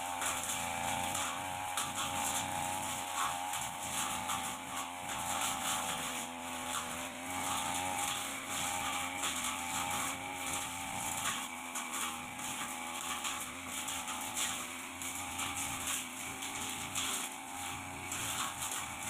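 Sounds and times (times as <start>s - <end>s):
blade swishing through grass: 0.0s - 19.0s
brush cutter engine running: 0.0s - 19.0s.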